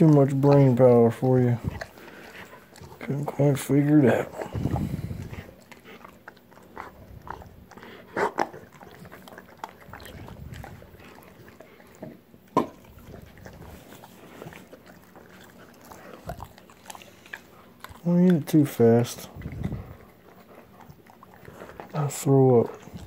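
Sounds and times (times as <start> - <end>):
dog chewing and biting: 0.0 - 23.0.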